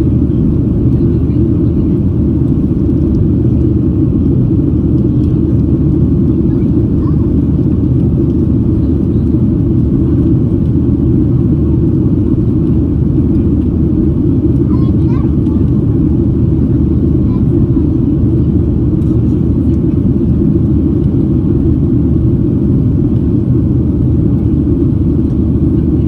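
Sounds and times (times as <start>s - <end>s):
airplane cabin engine drone: 0.0s - 26.0s.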